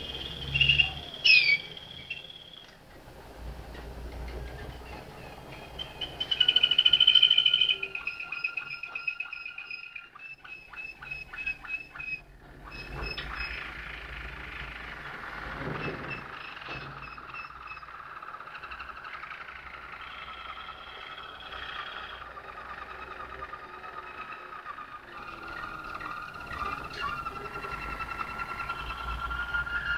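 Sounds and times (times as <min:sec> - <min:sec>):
canary singing trills: 0:00.0 - 0:02.8, 0:04.5 - 0:29.9.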